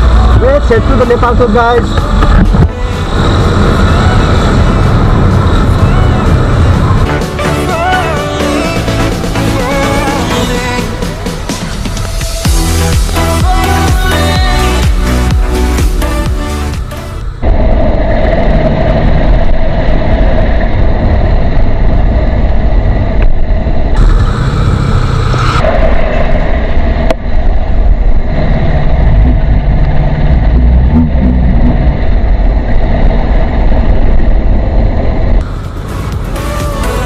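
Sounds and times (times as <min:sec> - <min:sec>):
motorcycle engine running: 0:00.0 - 0:17.5, 0:20.9 - 0:37.0
wind noise on microphone: 0:00.0 - 0:37.0.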